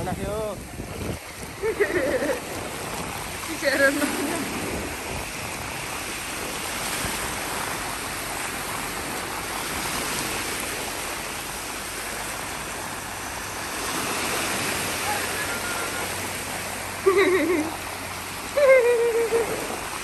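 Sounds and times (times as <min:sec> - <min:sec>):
sea surf breaking: 0:00.0 - 0:20.0.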